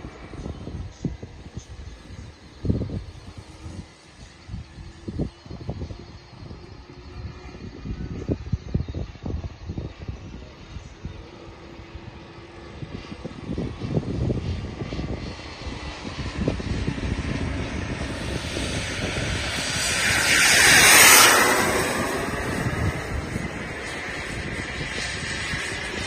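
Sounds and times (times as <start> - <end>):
model plane engines whooshing whine: 0.0 - 26.0.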